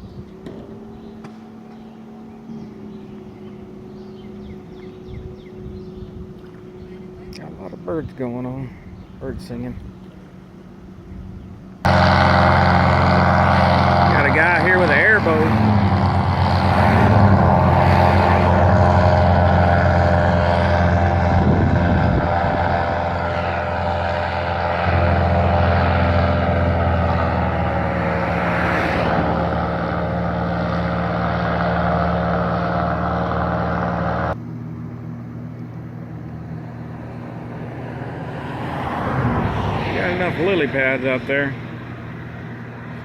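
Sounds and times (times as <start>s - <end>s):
airboat engine and propeller drone: 0.0s - 43.0s.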